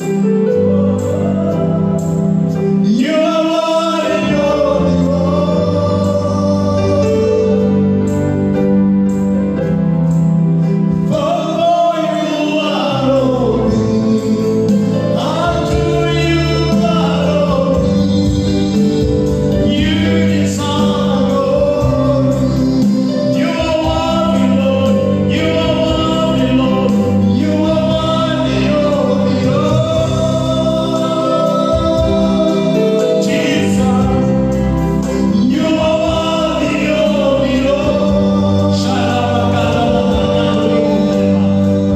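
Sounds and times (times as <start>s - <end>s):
steady held chords: 0.0s - 41.9s
voices singing gospel: 0.0s - 41.9s.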